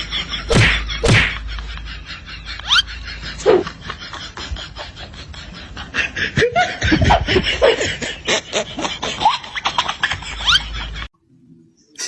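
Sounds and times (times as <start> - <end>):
people laughing: 0.0 - 11.1.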